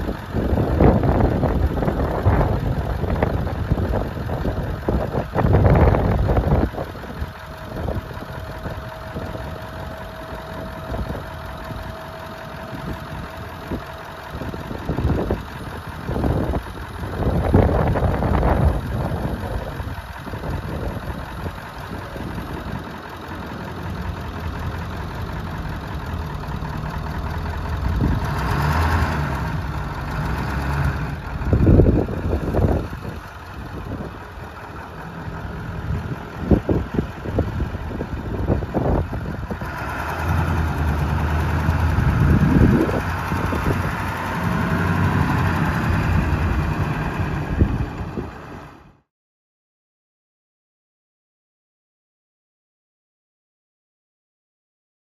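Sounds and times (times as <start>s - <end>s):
hydraulic hoist whine: 0.0s - 48.9s
truck engine idling: 0.0s - 49.0s.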